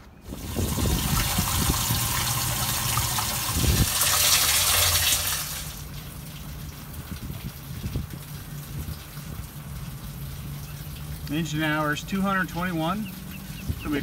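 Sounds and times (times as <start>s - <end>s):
water jetting and splashing: 0.0s - 14.0s.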